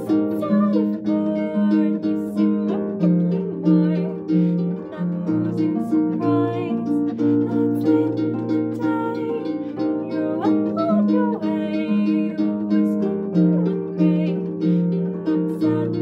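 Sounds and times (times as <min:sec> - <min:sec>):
harp plucked notes: 0:00.0 - 0:16.0
woman singing: 0:00.0 - 0:16.0.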